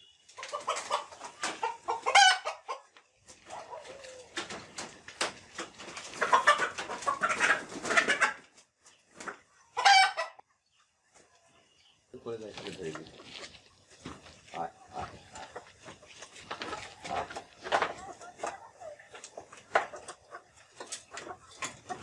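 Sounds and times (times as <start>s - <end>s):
chickens clucking and squawking: 0.0s - 22.0s.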